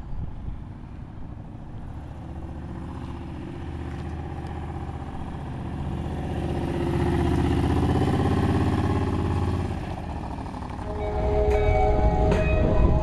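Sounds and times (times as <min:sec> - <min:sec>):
motorcycle engine passing by: 0:02.1 - 0:13.0.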